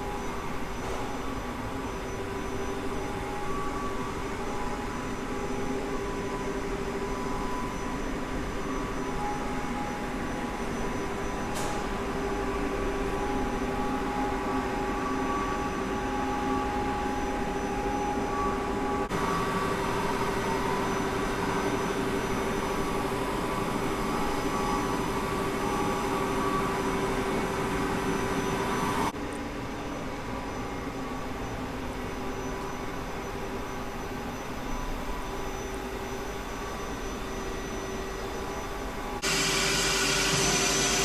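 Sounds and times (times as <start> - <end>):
machine hum with held tones: 0.0 - 41.0.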